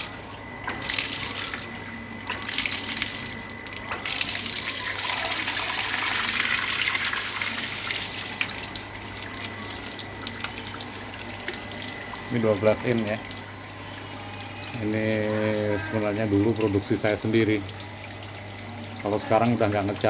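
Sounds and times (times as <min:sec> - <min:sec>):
water gushing from pipe: 0:00.0 - 0:20.0.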